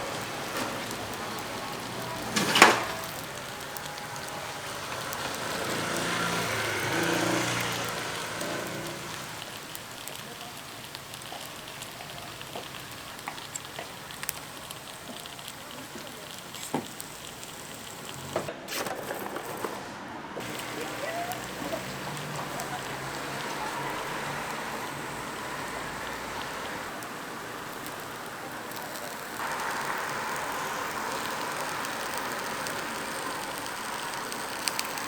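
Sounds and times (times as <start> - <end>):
batter sizzling in iron molds: 0.0 - 19.6, 20.4 - 35.0.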